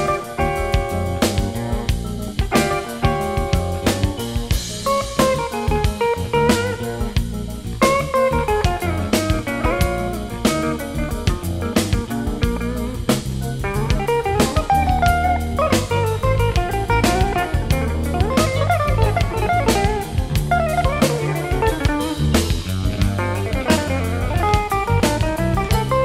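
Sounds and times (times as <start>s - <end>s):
drum kit: 0.0s - 26.0s
electric bass: 0.0s - 26.0s
electric guitar lines: 0.0s - 26.0s.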